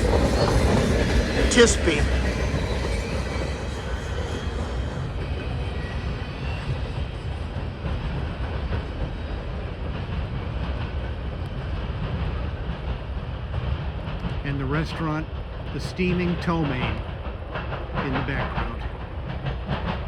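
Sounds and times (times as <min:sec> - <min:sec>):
freight train cars rolling: 0:00.0 - 0:20.0.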